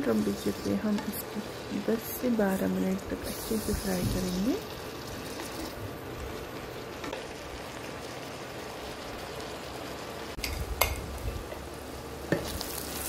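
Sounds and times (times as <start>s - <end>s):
cabbage sizzling in oil: 0.0s - 13.0s.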